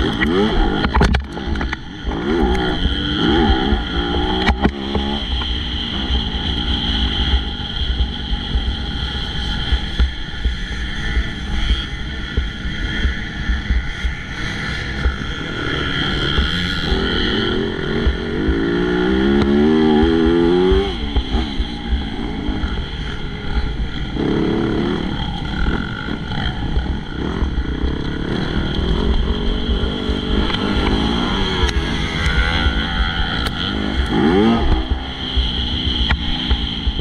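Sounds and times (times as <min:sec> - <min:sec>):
motocross bike engine revving: 0:00.0 - 0:37.0.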